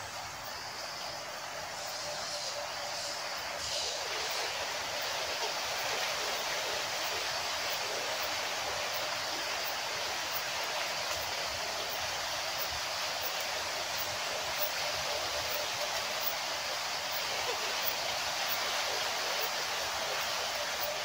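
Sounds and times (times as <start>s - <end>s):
steady rushing hiss: 0.0s - 21.0s.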